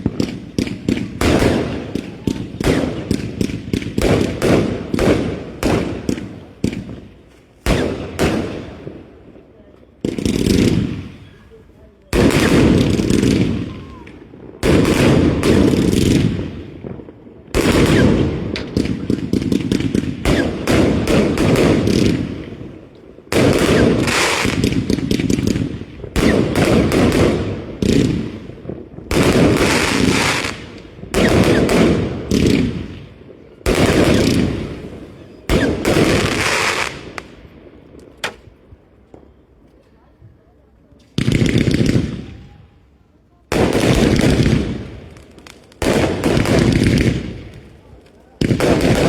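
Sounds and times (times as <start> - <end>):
fireworks crackling: 0.0 - 39.9, 41.0 - 49.0
fireworks banging: 0.0 - 40.0, 40.9 - 42.6, 43.5 - 49.0.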